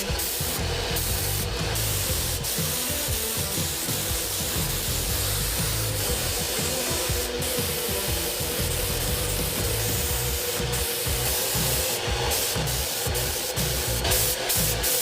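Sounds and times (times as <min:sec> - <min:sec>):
sandpaper rubbing: 0:00.0 - 0:15.0.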